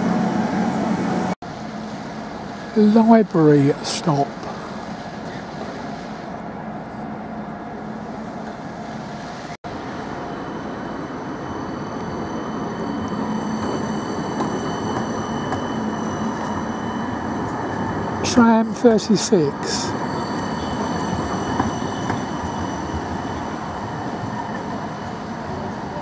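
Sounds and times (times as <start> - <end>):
tram running: 0.0 - 26.0.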